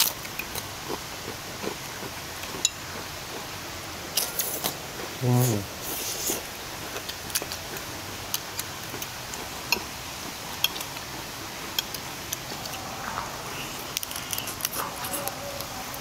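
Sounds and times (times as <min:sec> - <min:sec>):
crackers crunching: 0:00.0 - 0:16.0
steady background hiss: 0:00.0 - 0:16.0.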